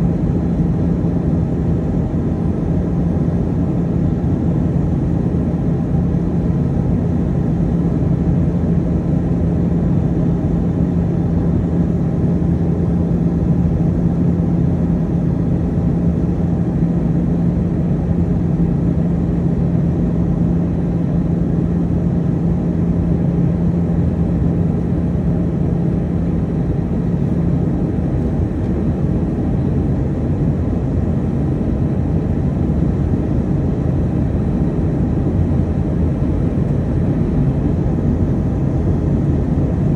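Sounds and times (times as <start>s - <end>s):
airflow and engine drone: 0.0s - 39.9s
steady low hum: 0.0s - 39.9s.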